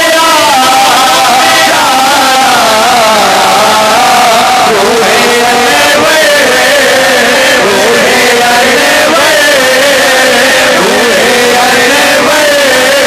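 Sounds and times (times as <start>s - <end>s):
men singing devotional hymn: 0.0s - 13.0s.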